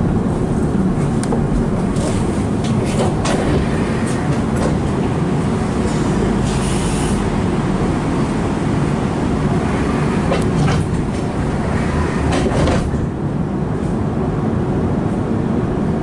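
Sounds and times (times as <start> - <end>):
bus interior rumble: 0.0 - 16.0.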